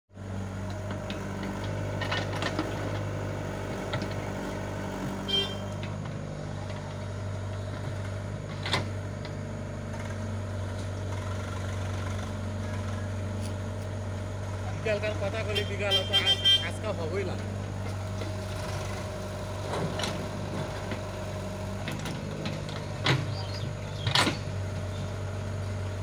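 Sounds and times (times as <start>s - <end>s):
excavator diesel engine drone: 0.1s - 26.0s.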